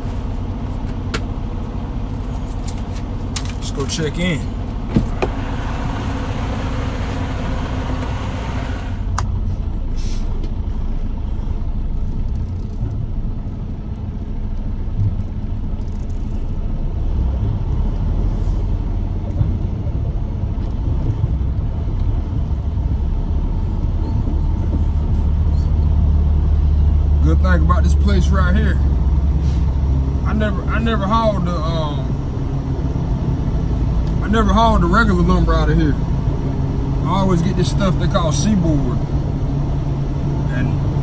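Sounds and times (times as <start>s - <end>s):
truck engines rumbling: 0.0s - 41.0s.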